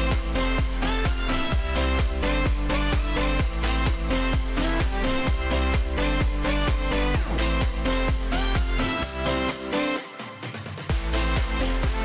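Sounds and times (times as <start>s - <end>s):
electronic dance music: 0.0s - 12.0s
steady kick-drum beat: 0.0s - 12.0s.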